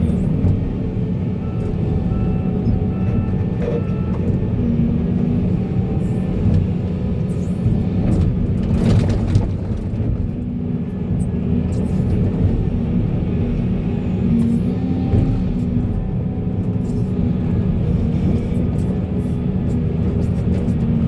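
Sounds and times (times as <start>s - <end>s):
diesel excavator engine running: 0.0s - 21.0s.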